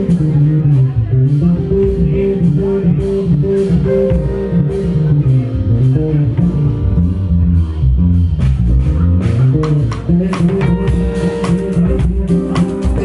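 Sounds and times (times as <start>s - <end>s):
electric bass guitar solo: 0.0s - 13.0s.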